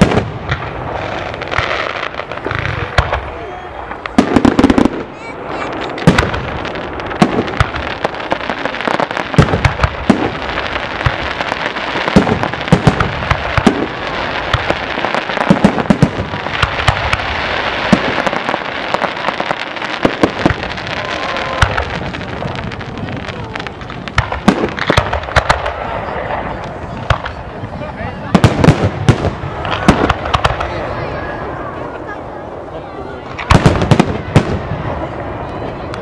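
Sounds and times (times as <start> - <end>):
fireworks crackling hiss: 0.0 - 36.0.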